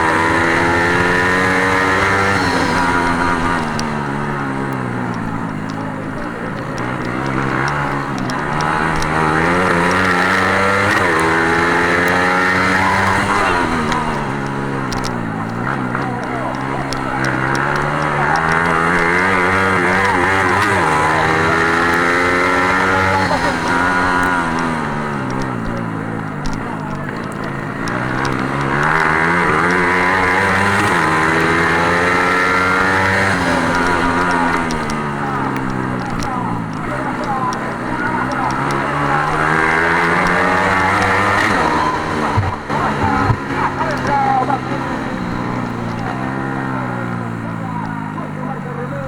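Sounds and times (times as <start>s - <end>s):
racing engine at high revs: 0.0s - 49.0s.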